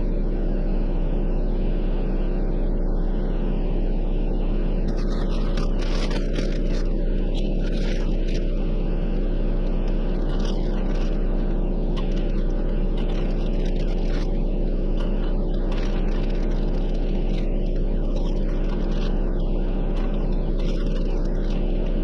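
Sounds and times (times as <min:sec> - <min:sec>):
engine and road noise: 0:03.8 - 0:22.0.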